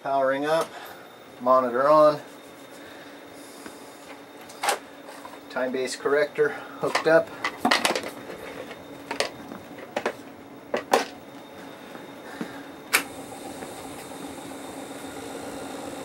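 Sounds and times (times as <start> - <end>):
tape recorder mechanical hum: 0.0 - 16.0.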